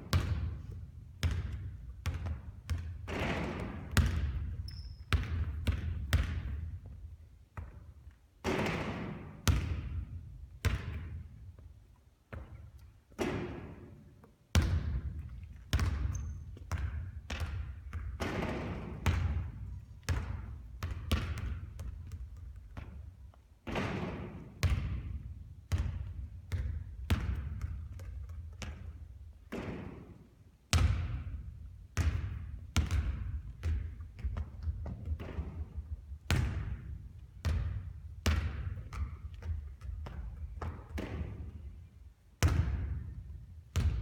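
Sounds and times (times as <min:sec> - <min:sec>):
basketballs bouncing on a court: 0:00.0 - 0:44.0.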